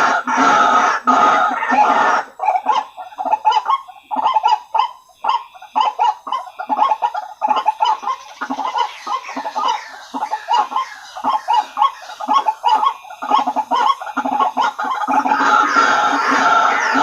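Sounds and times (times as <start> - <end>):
waterhen calls: 0.0 - 17.0.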